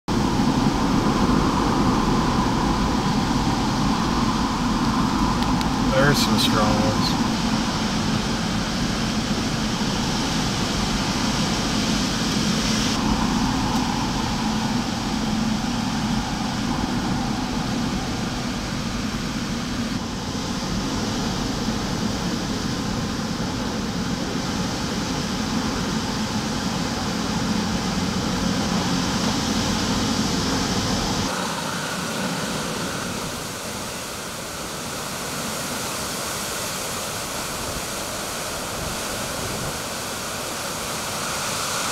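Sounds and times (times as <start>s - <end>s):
strong wind rushing: 0.1s - 35.6s.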